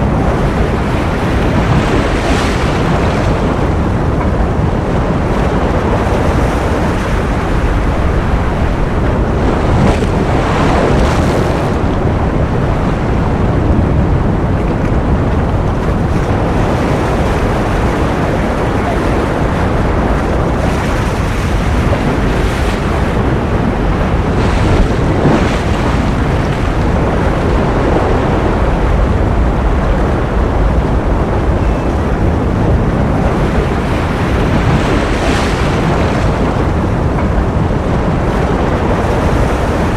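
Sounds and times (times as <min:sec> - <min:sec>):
ocean waves rushing: 0:00.0 - 0:39.9
wave breaking: 0:00.0 - 0:39.9.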